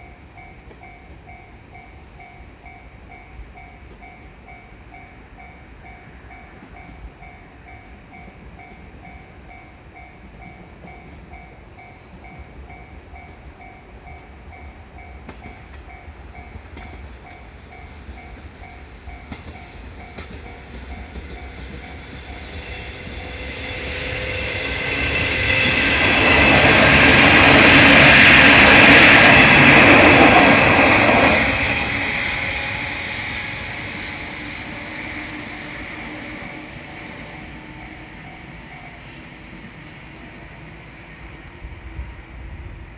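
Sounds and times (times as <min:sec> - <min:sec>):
electric train passing: 0:00.0 - 0:42.9
railroad crossing alarm ringing: 0:00.0 - 0:42.9.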